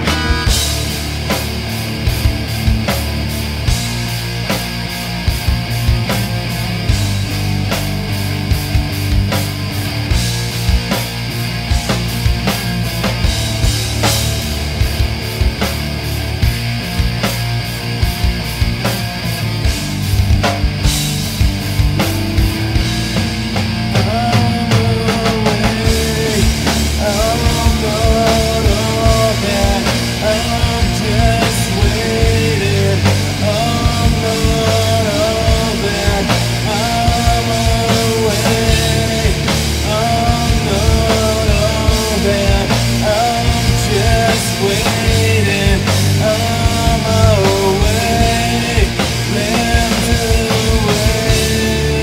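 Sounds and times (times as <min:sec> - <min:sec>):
rock band playing: 0:00.0 - 0:52.0.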